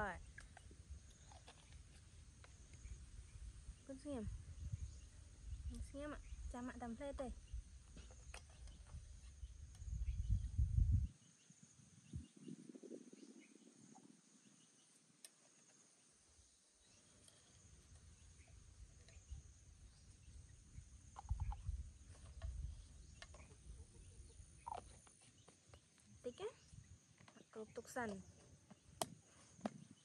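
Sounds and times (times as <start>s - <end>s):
bird calls: 0.0s - 30.0s.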